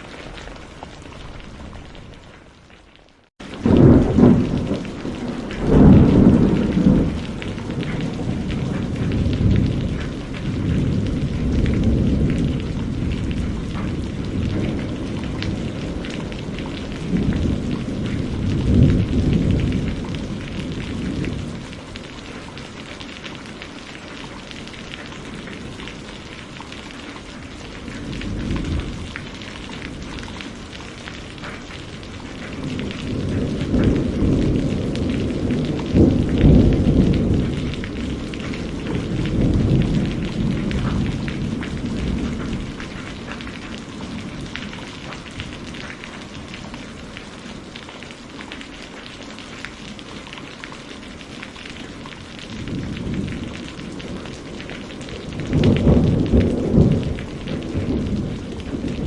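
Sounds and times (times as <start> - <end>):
steady rain: 0.0 - 59.0
thunder rumbling: 3.4 - 59.0.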